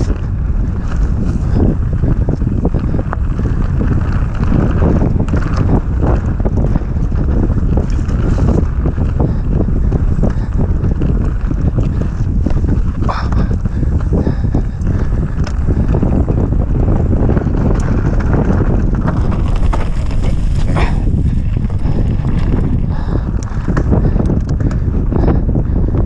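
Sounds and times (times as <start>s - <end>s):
bike knocks and rattles: 0.0s - 26.0s
wind rushing over microphone: 0.0s - 26.0s.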